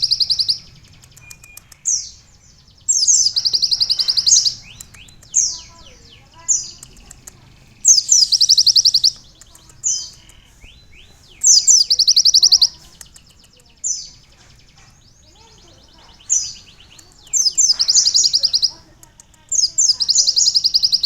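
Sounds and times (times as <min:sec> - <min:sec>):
bird singing with fast trills: 0:00.0 - 0:21.0.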